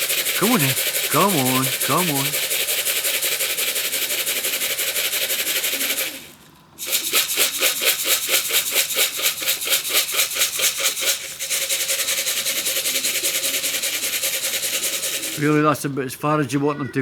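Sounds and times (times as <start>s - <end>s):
grain rattling in shaken tin: 0.0s - 15.6s.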